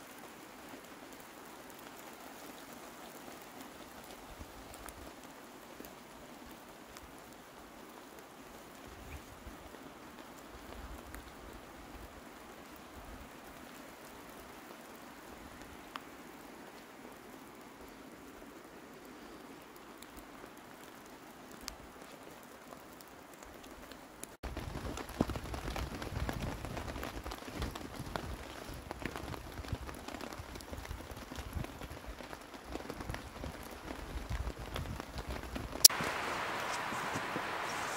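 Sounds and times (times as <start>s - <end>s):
rain falling through trees: 0.0s - 37.9s
rain pattering on a tarp: 0.0s - 37.9s.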